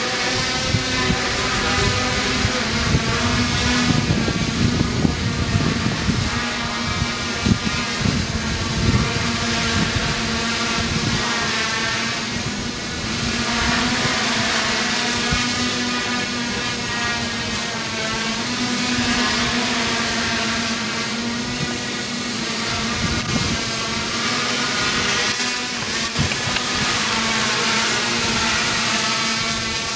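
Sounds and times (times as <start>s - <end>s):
drone motors whirring: 0.0s - 29.9s
wind buffeting microphone: 0.1s - 29.9s.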